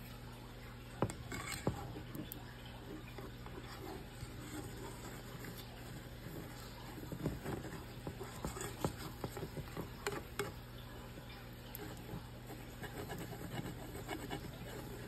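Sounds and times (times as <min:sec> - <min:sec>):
steady low hum: 0:00.0 - 0:15.0
plastic spatula scraping a skillet: 0:01.0 - 0:10.6, 0:11.7 - 0:15.0.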